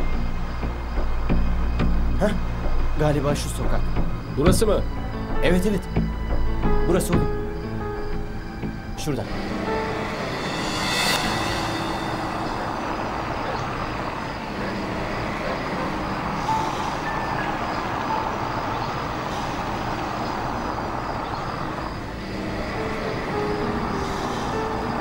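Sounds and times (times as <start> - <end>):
road noise: 0.0 - 25.0.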